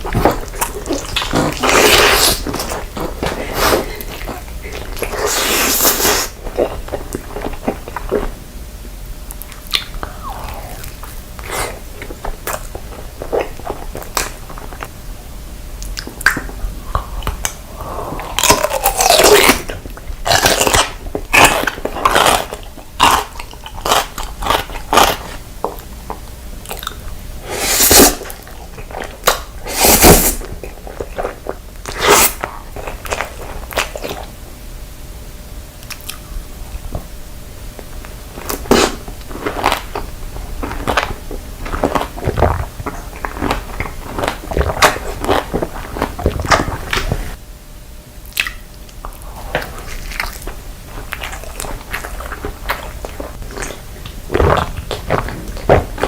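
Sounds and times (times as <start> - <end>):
crunchy food being eaten: 0.0 - 8.6, 9.3 - 15.0, 15.8 - 34.4, 37.7 - 47.4, 48.3 - 56.0.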